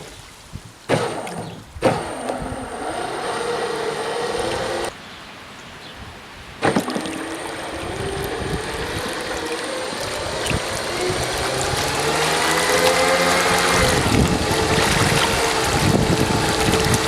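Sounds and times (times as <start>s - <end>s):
water rushing and splashing: 0.0s - 5.5s, 6.5s - 17.0s
electric motor whine: 1.0s - 4.9s, 6.8s - 17.0s.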